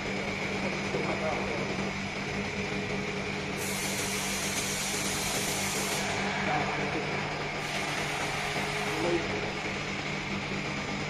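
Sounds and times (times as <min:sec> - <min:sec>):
machinery hum with hiss: 0:00.0 - 0:11.0.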